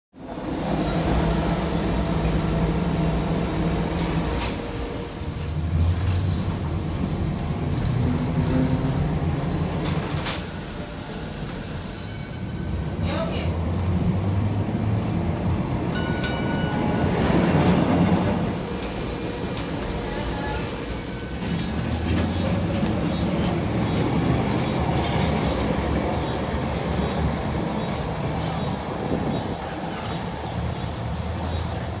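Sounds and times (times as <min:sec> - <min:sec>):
streetcar low rumble: 0:00.1 - 0:32.0.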